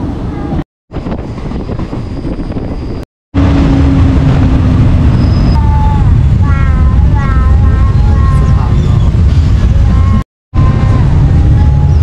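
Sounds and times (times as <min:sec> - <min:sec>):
moving passenger train: 0:00.0 - 0:12.0.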